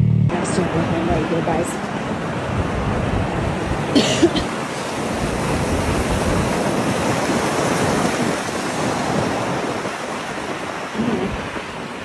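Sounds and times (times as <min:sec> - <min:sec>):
strong wind buffeting microphone: 0:00.3 - 0:12.0.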